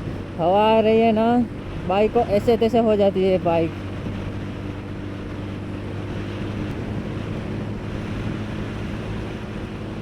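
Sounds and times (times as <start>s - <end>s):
motorcycle engine running: 0.0s - 10.0s
wind on microphone: 0.0s - 10.0s.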